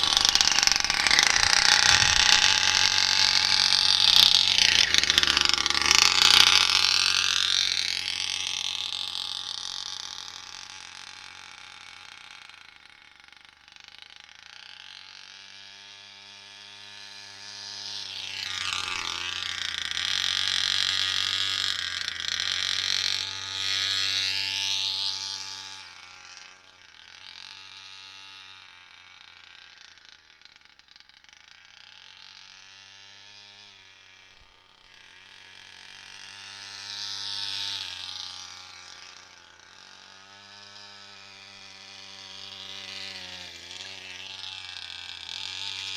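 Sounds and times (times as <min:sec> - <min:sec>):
small two-stroke engine revving: 0:00.0 - 0:45.9.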